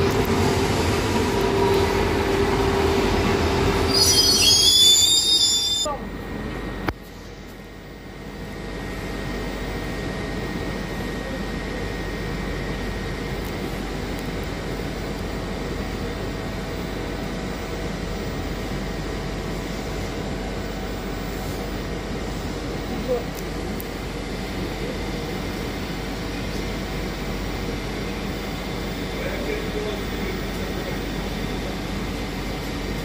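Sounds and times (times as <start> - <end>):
train ventilation hum and rushing: 0.0 - 33.0.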